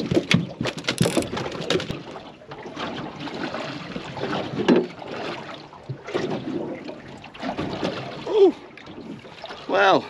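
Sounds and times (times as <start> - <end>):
water lapping against boat hull: 0.0 - 10.0.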